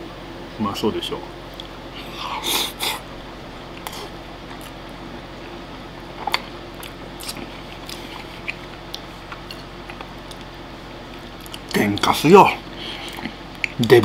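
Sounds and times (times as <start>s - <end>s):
man chewing food: 1.5s - 13.9s.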